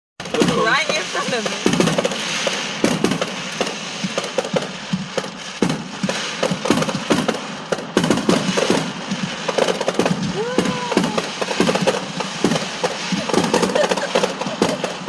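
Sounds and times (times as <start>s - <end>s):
fireworks and firecrackers banging: 0.2s - 15.0s.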